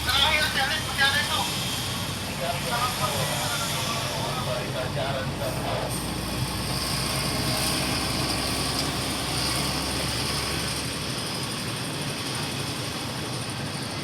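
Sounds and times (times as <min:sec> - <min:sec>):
diesel machinery engine hum: 0:00.0 - 0:14.0.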